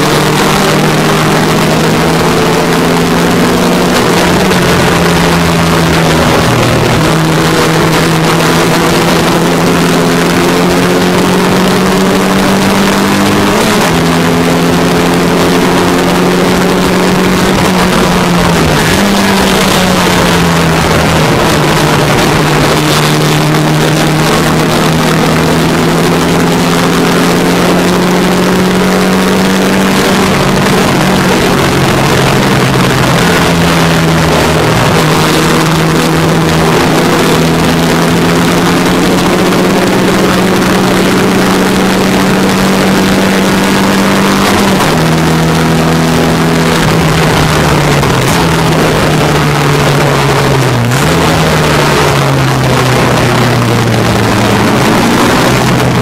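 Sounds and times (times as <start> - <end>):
race car engine pulling hard: 0.0 - 56.0
wind rushing over microphone: 0.0 - 56.0.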